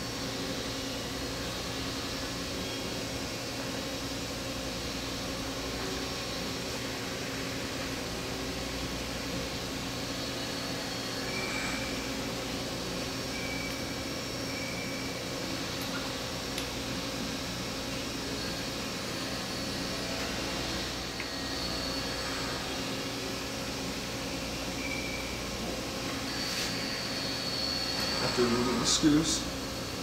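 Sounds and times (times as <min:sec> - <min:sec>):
machine hum: 0:00.0 - 0:30.0.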